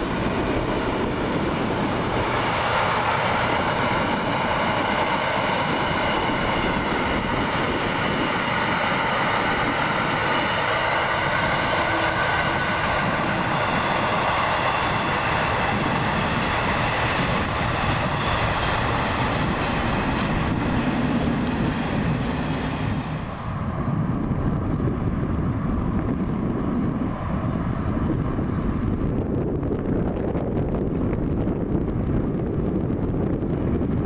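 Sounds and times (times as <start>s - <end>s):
train wheels rushing on rails: 0.0s - 34.0s.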